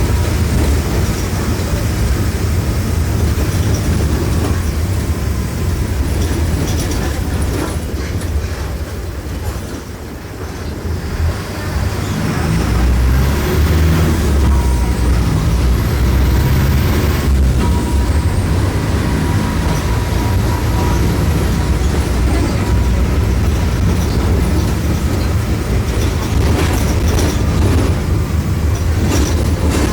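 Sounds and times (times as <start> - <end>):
diesel bus engine droning: 0.0 - 29.9.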